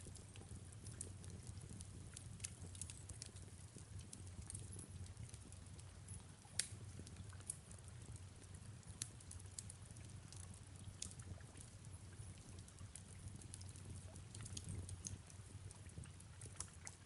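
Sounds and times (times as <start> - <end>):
fireplace crackling and popping: 0.0 - 17.0
soft steady rain: 0.0 - 17.0.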